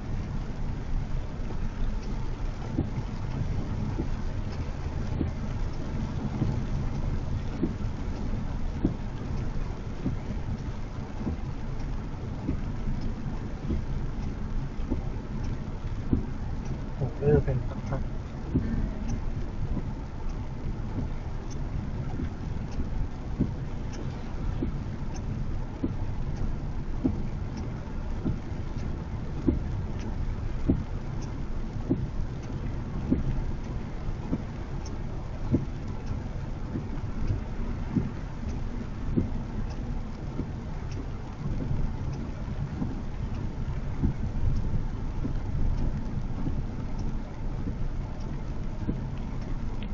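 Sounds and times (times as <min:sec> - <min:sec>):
car driving on wet road: 0:00.0 - 0:49.9
soft low knocks: 0:00.0 - 0:49.9.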